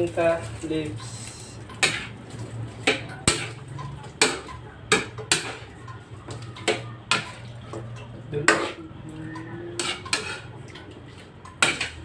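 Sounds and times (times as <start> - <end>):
utensil stirring in a pan: 0.0 - 12.0.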